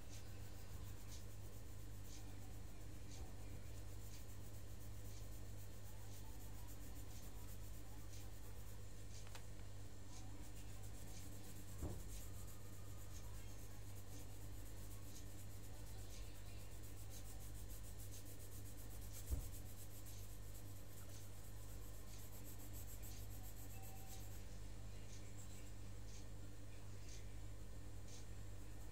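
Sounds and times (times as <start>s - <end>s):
pencil shading on paper: 0.0s - 9.3s, 10.1s - 24.5s.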